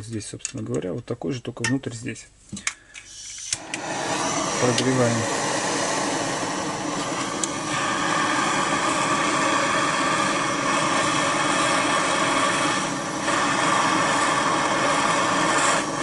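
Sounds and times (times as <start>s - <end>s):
gas torch hissing: 2.9s - 16.0s.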